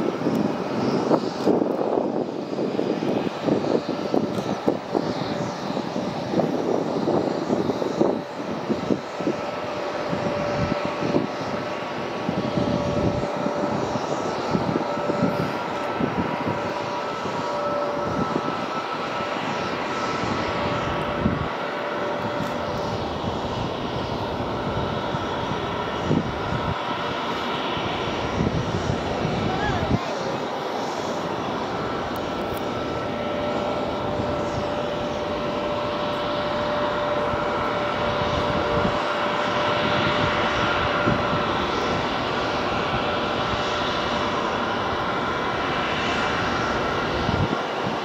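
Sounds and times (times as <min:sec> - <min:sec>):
jet engines rumbling: 0:00.0 - 0:48.0.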